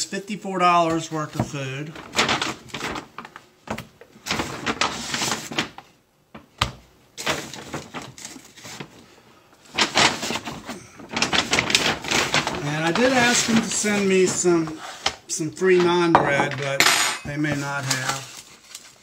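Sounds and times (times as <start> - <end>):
paper bag rustling and crinkling: 0.8 - 6.5, 7.2 - 16.7, 17.3 - 19.0.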